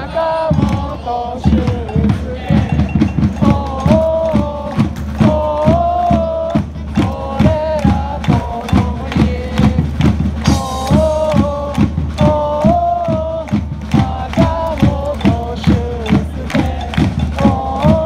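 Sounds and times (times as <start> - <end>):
crowd singing in unison: 0.0 - 18.0
steady drum beat: 0.0 - 18.0.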